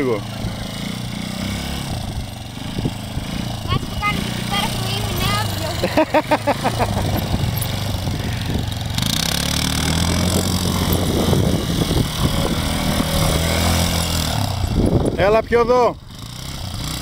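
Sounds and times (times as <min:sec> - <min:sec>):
quad engine running: 0:00.0 - 0:17.0.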